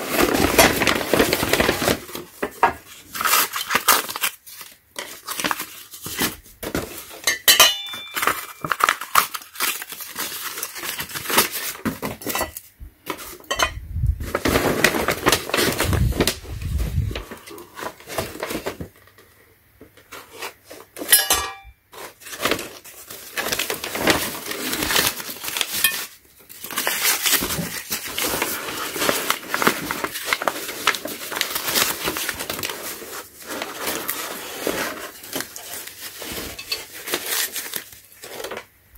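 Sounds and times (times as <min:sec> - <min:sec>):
paper crinkling and tearing: 0:00.0 - 0:07.2, 0:08.1 - 0:12.3, 0:14.2 - 0:19.0, 0:21.9 - 0:38.7.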